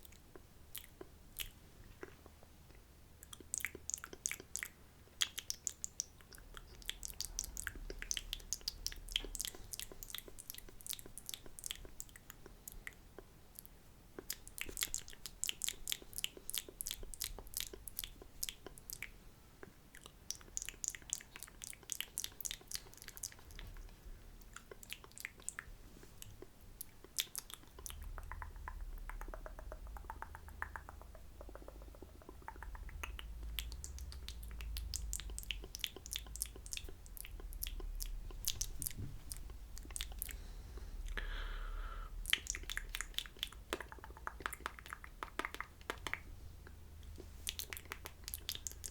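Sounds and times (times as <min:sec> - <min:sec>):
lip and tongue clicks: 0:00.0 - 0:41.4, 0:42.1 - 0:48.9
soft low mouth sound: 0:00.0 - 0:48.9.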